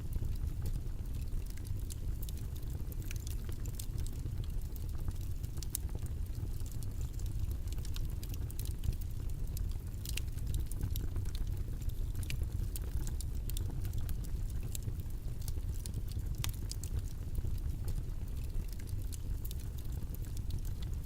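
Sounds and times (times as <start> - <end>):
faint clicks and crackles: 0.0 - 21.0.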